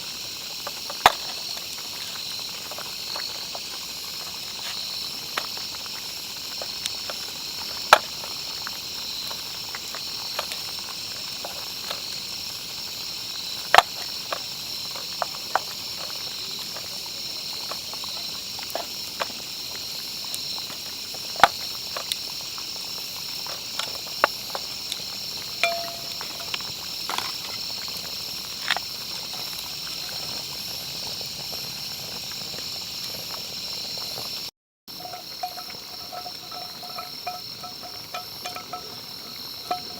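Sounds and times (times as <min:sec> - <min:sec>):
campfire popping and crackling: 0:00.0 - 0:39.9
crickets and insects chirping: 0:00.0 - 0:39.9.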